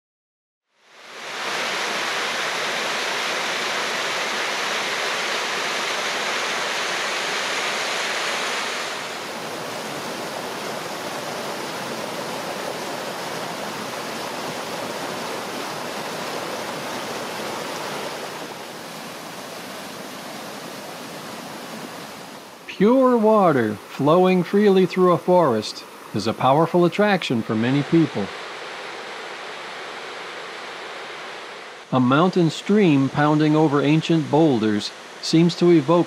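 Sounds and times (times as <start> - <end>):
stream cascading over boulders: 0.9 - 36.0
waterfall rushing: 0.9 - 36.0.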